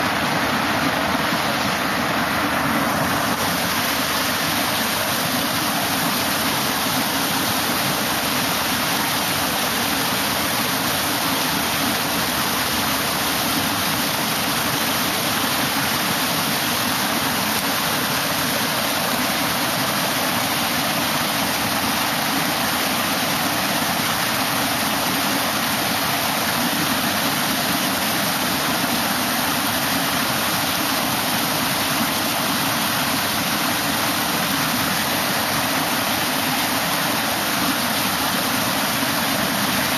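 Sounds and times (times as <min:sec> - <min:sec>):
water rushing over weirs: 0:00.0 - 0:39.9.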